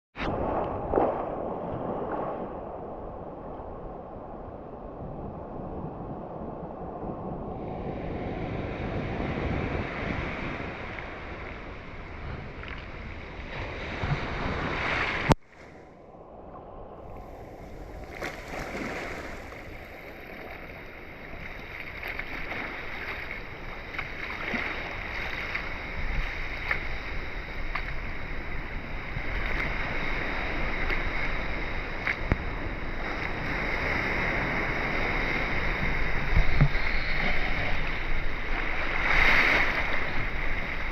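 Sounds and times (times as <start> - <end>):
ocean water washing: 0.2 - 40.9.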